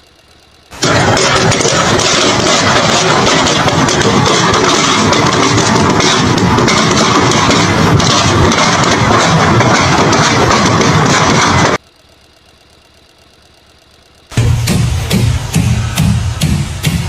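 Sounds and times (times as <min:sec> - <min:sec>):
loud engine running: 0:00.0 - 0:11.8, 0:14.3 - 0:17.0.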